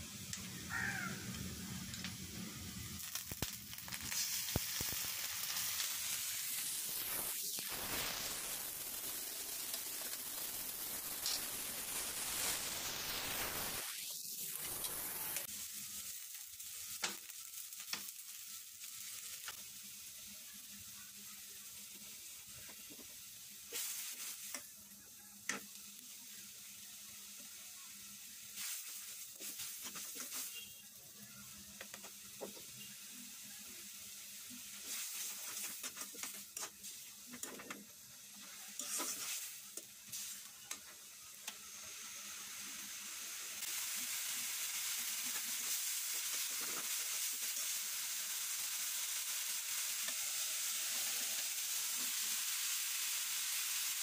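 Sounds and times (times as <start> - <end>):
onions sizzling in hot oil: 0.2 - 54.0.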